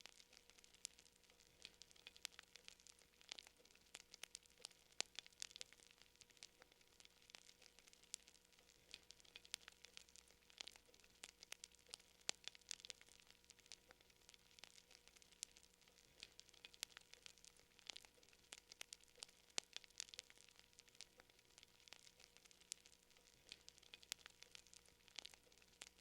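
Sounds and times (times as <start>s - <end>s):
fire crackling: 0.0s - 26.0s
low hiss: 0.0s - 26.0s.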